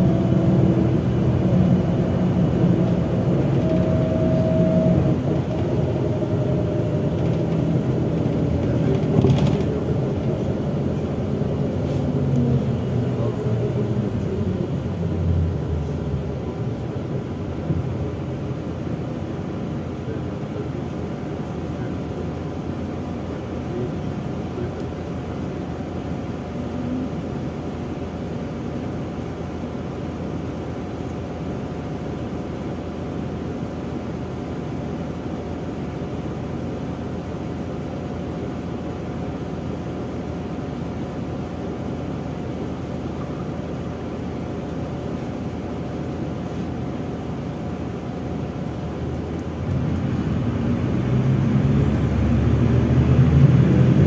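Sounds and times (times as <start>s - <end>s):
bus engine revving: 0.0s - 30.6s, 33.2s - 54.0s
bus engine idling: 0.0s - 54.0s.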